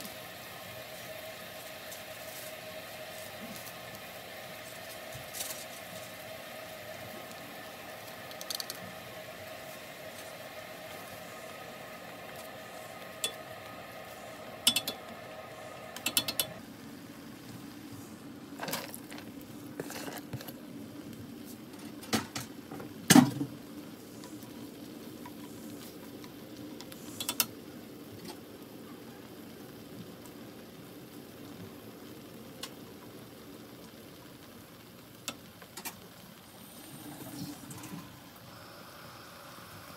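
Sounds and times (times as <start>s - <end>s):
soup simmering: 0.0s - 39.9s
steady hum: 0.0s - 39.9s.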